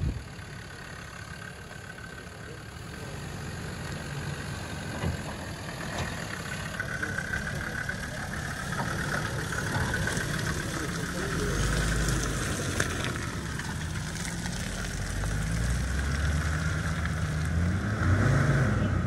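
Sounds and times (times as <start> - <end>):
vehicle engine at low revs: 0.0 - 19.0.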